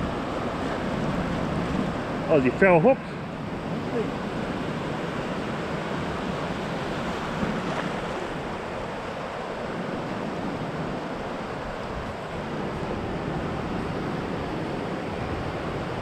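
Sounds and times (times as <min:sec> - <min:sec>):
ocean surf breaking: 0:00.0 - 0:16.0
wind on microphone: 0:00.0 - 0:16.0.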